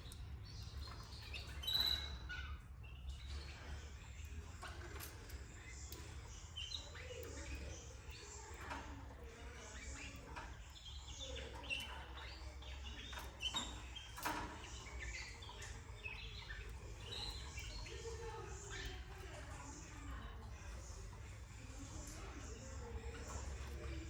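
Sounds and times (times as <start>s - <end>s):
canaries chirping: 0.0s - 24.0s.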